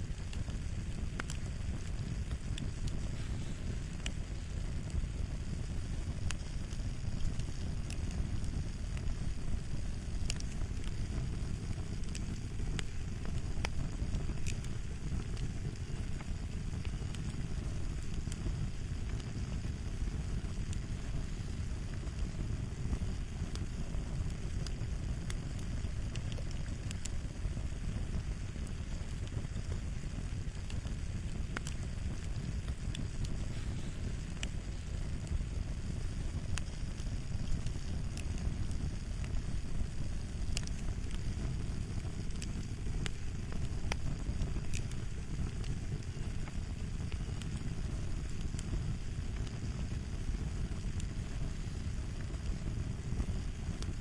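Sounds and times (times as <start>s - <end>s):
fire crackling: 0.0s - 54.0s
fire popping and snapping: 0.0s - 54.0s.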